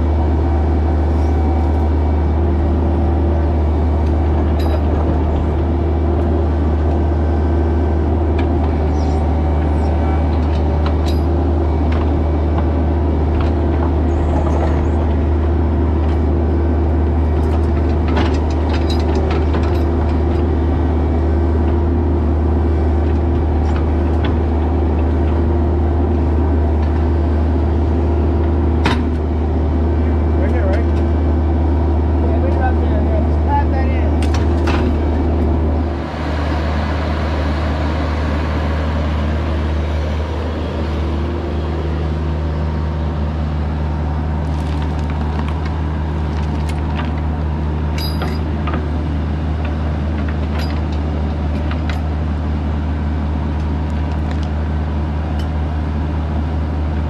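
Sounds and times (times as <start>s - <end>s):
diesel engine running under load: 0.0s - 57.0s
hydraulics working: 0.0s - 57.0s.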